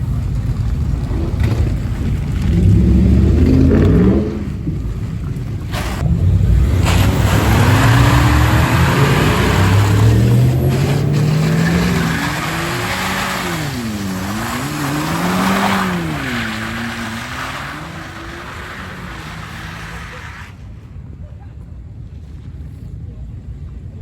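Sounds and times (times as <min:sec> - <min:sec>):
spinning tyres hissing: 0:00.0 - 0:20.6
truck engine revving hard: 0:01.0 - 0:20.5.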